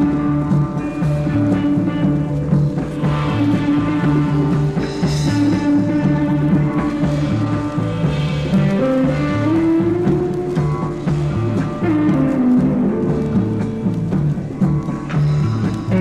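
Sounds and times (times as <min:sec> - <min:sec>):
psychedelic rock band instrumental: 0:00.0 - 0:16.0.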